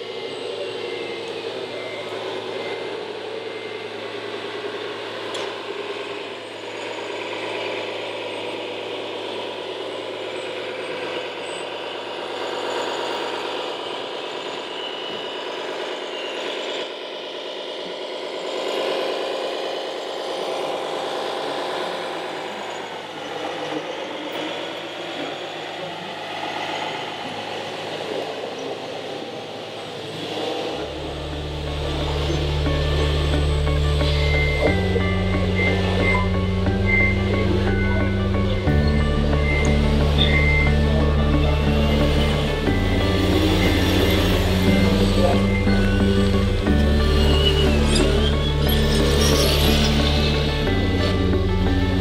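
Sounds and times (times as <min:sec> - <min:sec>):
toy truck diesel engine sound: 0:00.0 - 0:52.0.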